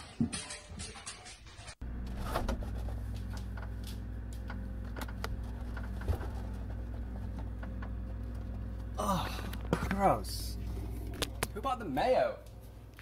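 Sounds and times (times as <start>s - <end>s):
refrigerator hum: 1.8s - 13.0s.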